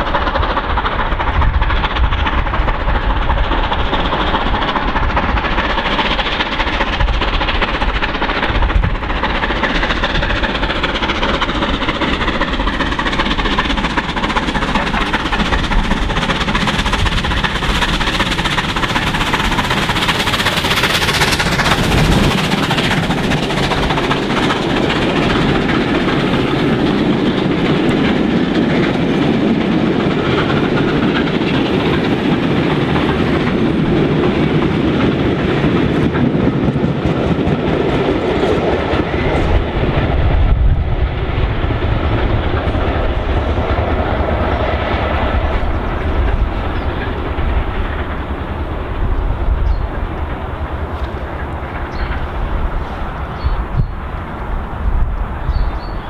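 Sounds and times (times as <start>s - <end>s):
steam locomotive working hard: 0.0s - 56.0s
train wheels clickety-clack: 0.0s - 56.0s.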